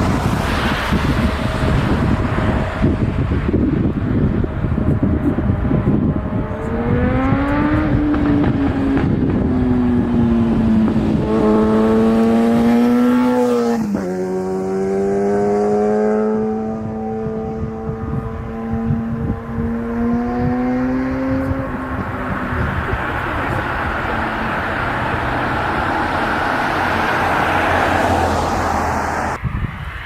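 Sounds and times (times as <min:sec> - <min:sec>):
engine tone rising and falling: 0:00.0 - 0:29.4
aircraft engine roar: 0:00.0 - 0:30.0.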